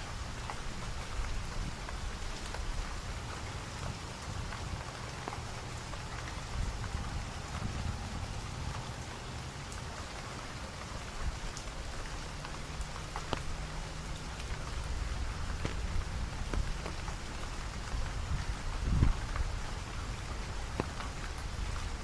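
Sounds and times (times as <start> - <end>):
raindrops ticking: 0.0 - 22.0
steady rain falling: 0.0 - 22.0.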